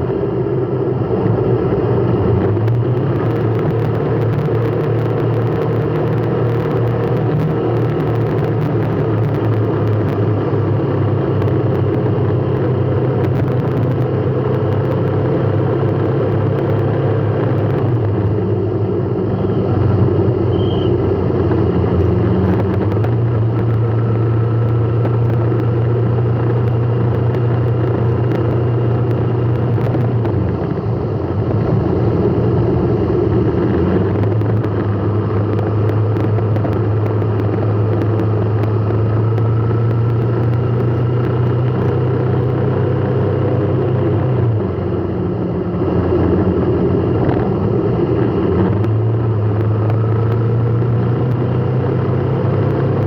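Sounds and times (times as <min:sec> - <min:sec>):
car engine and road hum: 0:00.0 - 0:53.0.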